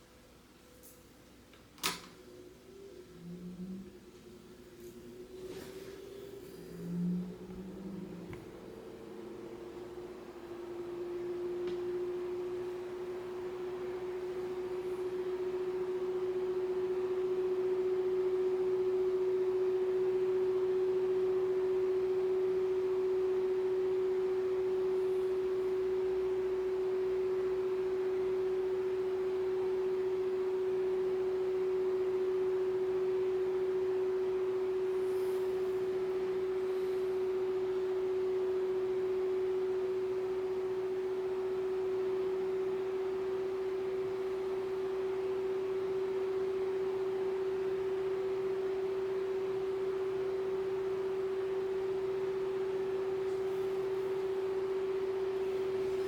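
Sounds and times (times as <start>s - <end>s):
table fan motor hum: 1.9s - 56.0s.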